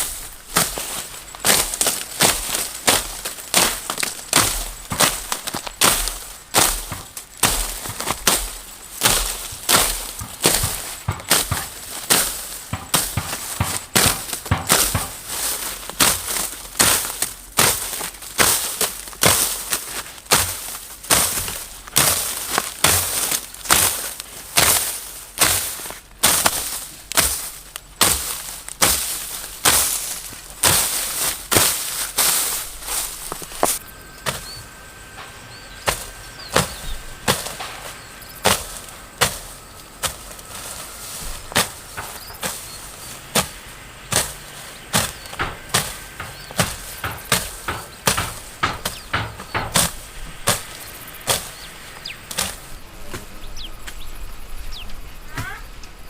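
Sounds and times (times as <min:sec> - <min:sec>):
heavy tool strikes with crunching: 0:00.0 - 0:53.3.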